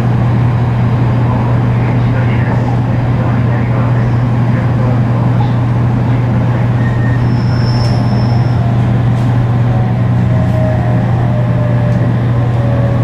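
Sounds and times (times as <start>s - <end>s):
deep low train motor drone: 0.0s - 13.0s
wheel and track noise: 0.0s - 13.0s.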